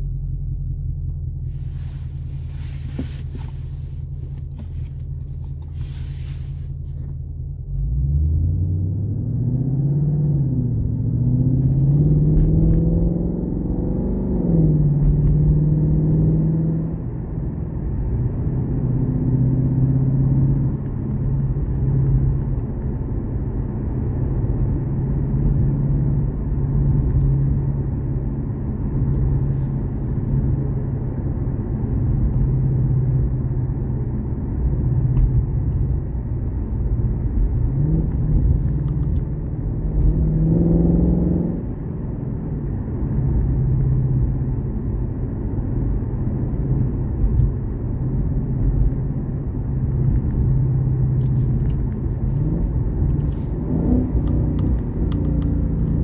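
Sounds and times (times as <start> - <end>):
car engine and exhaust droning: 0.0 - 56.0.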